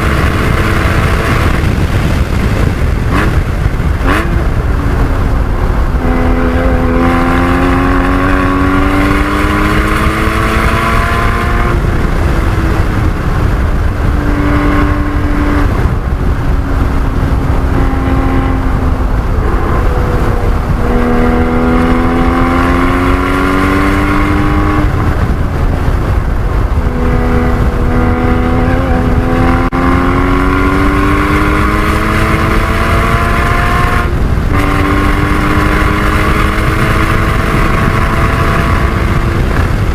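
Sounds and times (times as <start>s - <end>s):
car engine revving at full throttle: 0.0s - 39.9s
road and wind noise rumble: 0.0s - 39.9s.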